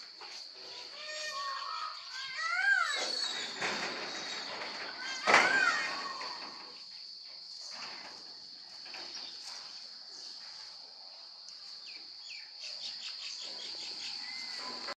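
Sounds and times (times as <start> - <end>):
small birds chirping: 0.2 - 7.8, 8.5 - 15.0.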